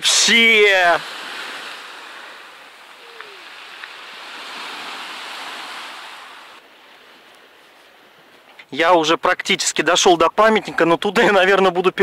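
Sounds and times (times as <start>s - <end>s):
sea surf washing ashore: 0.0s - 11.6s.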